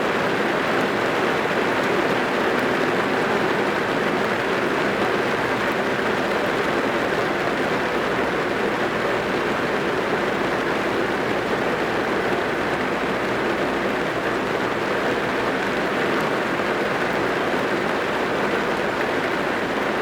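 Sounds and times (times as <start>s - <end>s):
rain on car roof: 0.1s - 20.0s.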